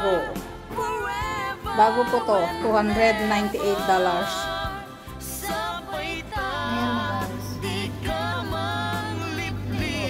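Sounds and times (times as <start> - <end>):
song with singing voice: 0.0 - 10.0.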